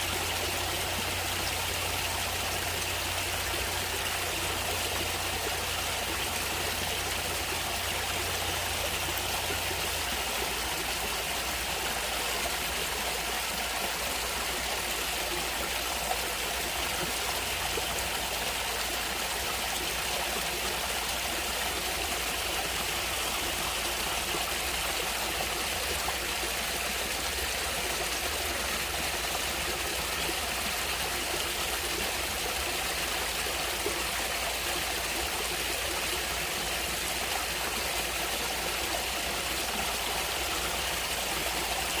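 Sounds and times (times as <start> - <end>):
stream water flowing: 0.0 - 42.0.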